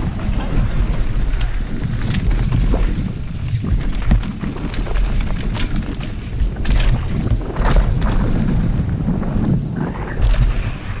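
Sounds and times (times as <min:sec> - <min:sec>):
bike knocking and rattling: 0:00.0 - 0:11.0
wind buffeting microphone: 0:00.0 - 0:11.0.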